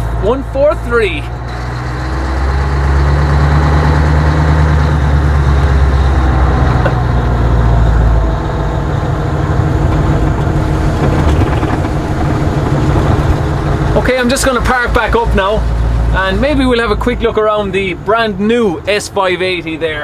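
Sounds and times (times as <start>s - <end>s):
truck diesel engine running: 0.0s - 20.0s.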